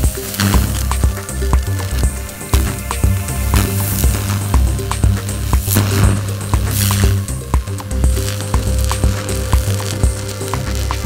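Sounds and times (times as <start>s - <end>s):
crackling sparks and zaps: 0.0s - 11.0s
electrical buzzing: 0.0s - 11.0s
music with bass pulse: 0.0s - 11.0s.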